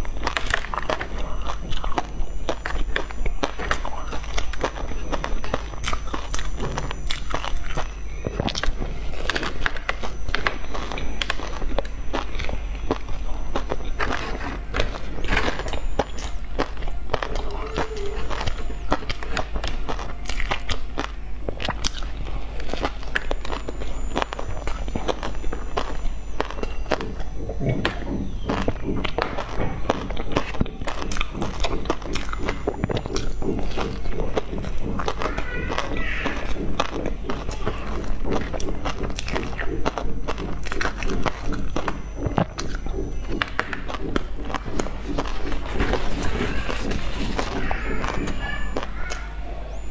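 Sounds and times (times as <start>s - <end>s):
chewing and mouth sounds: 0.0s - 49.9s
low hum: 0.0s - 49.9s.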